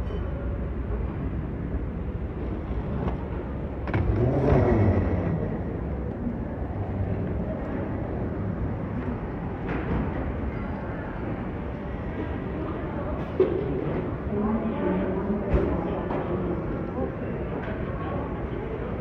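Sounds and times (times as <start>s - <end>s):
airport terminal rumble: 0.0s - 19.0s.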